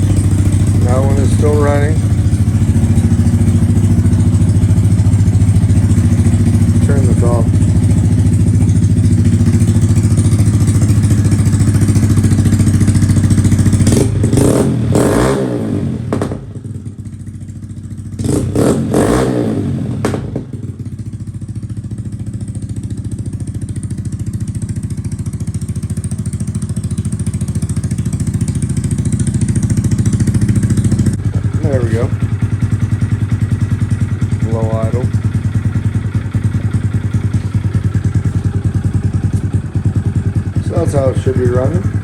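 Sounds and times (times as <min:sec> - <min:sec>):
motorcycle engines idling: 0:00.0 - 0:42.0.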